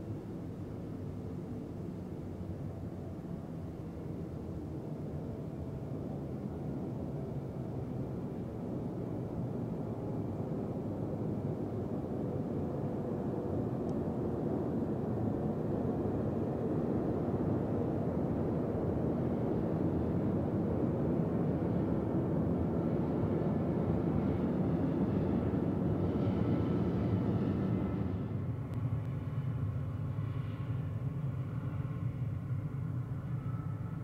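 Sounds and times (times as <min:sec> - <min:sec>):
faint engine whine: 0:00.0 - 0:34.0
jet engine low rumble: 0:00.0 - 0:34.0.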